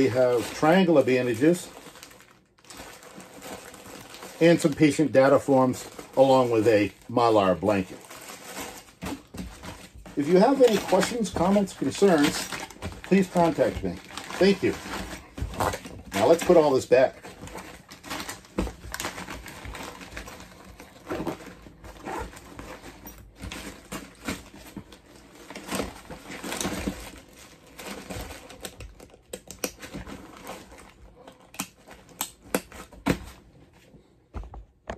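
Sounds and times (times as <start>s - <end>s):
plastic wrap rustling and crinkling: 0.0s - 33.8s.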